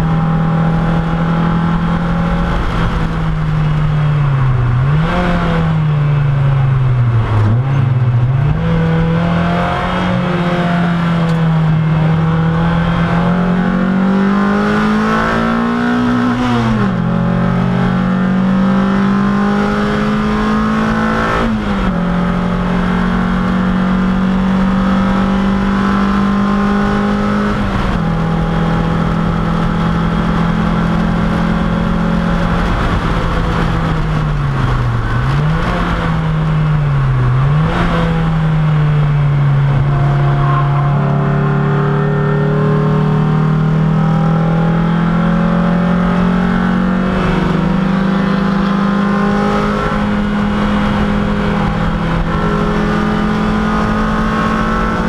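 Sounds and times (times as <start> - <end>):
race car engine accelerating: 0.0 - 55.0
wind and road noise: 0.0 - 55.0.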